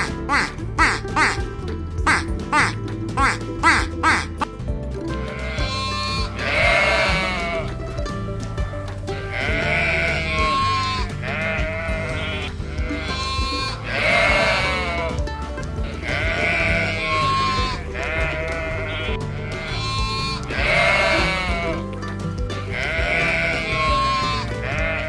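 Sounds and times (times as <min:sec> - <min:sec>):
sheep bleating: 0:00.0 - 0:01.4, 0:02.1 - 0:04.5, 0:05.2 - 0:07.7, 0:09.3 - 0:15.2, 0:15.9 - 0:21.8, 0:22.8 - 0:25.0
background music: 0:00.0 - 0:25.0.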